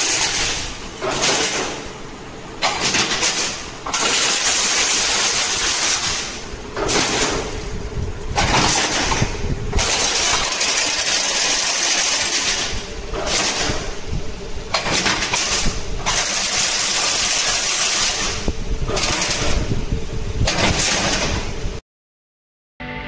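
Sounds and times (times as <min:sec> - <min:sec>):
machine mechanical clatter: 0:00.0 - 0:21.8.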